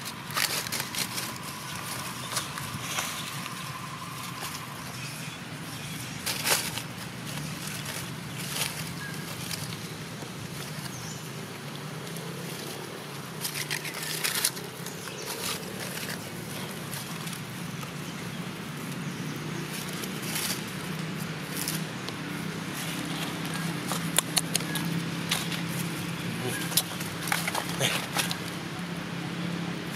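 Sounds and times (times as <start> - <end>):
dry leaves rustling and crackling: 0.0 - 29.9.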